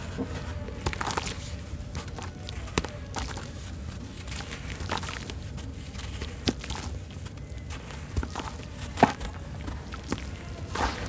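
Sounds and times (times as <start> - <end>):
wet cement lumps crunching by hand: 0.0 - 11.0.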